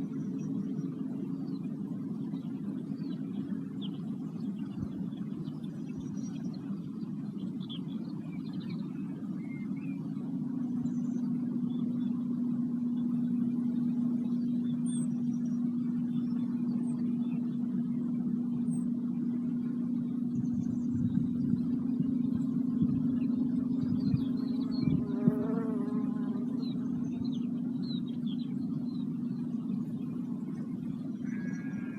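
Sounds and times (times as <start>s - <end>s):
faint bird chirps: 0.0s - 31.9s
low hum: 0.0s - 31.9s
low sustained instrument tone: 0.0s - 31.9s.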